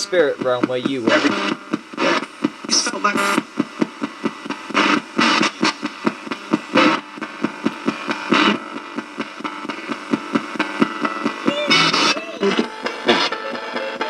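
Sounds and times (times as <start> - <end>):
fragments of broadcast sound: 0.0 - 14.0
radio static chopping: 0.0 - 14.0.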